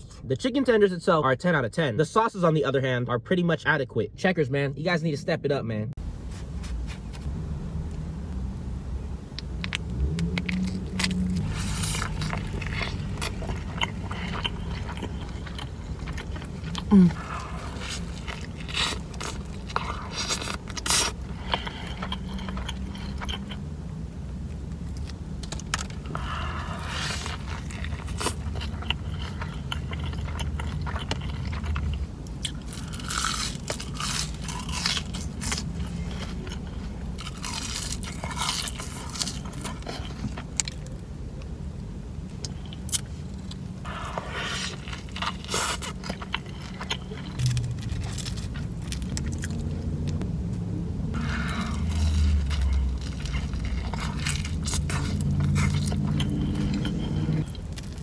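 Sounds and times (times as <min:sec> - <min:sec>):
person chewing crunchy food: 0:06.0 - 0:08.1, 0:09.0 - 0:41.4, 0:42.2 - 0:50.2, 0:51.1 - 0:58.0.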